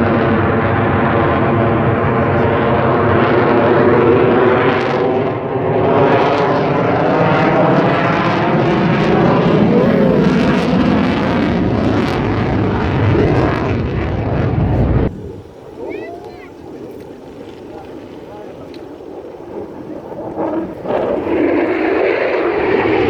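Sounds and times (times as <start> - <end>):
fighter jet engine roaring: 0.0 - 16.0, 19.0 - 23.0.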